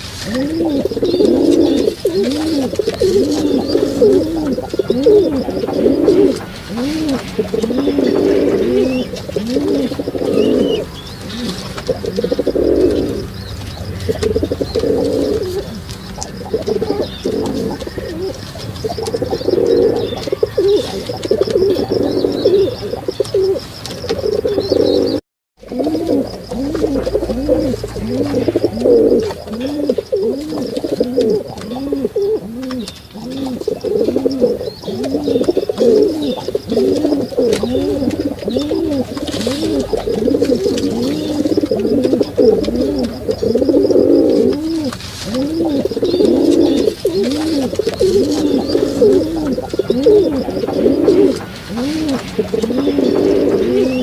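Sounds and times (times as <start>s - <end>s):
pigeons cooing: 0.0s - 54.0s.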